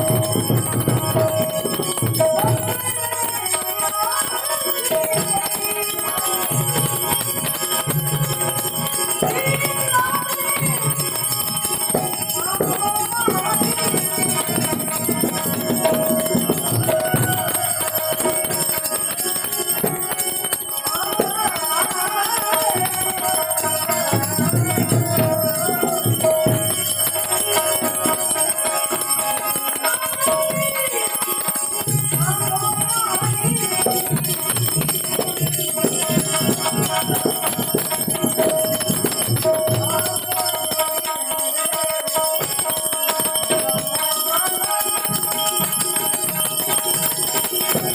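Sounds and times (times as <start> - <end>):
harmonium: 0.0 - 47.9
small metal bells ringing: 0.0 - 47.9.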